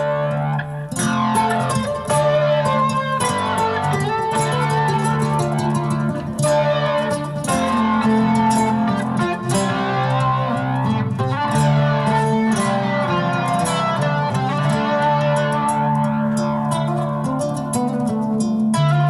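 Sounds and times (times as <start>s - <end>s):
nylon-string acoustic guitar: 0.0s - 19.0s.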